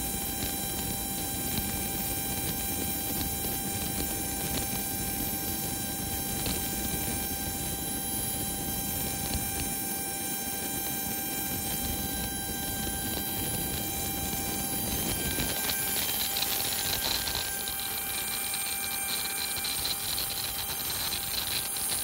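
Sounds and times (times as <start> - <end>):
jet auxiliary power unit whine: 0.0 - 22.0.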